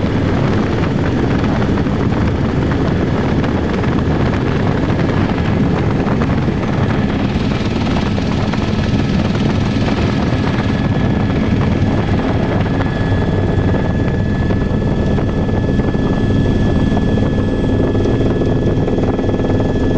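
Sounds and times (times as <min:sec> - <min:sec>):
helicopter rotor rumble: 0:00.0 - 0:19.9.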